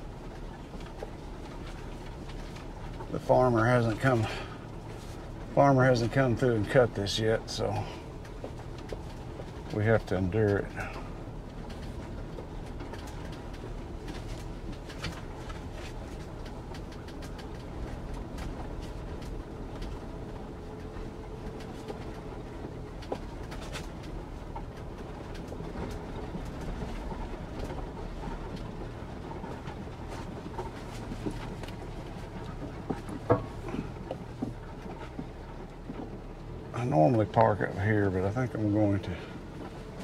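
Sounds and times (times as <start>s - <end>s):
low engine and road rumble: 0.0s - 40.0s.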